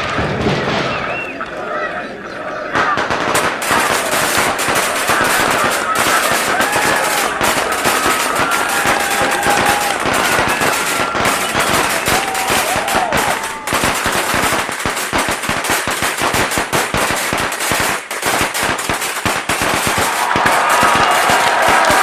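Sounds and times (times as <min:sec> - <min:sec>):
firecrackers crackling: 0:02.4 - 0:22.0.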